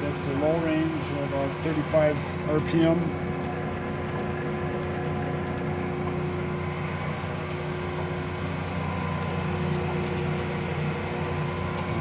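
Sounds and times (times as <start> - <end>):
lathe motor humming: 0.0 - 12.0.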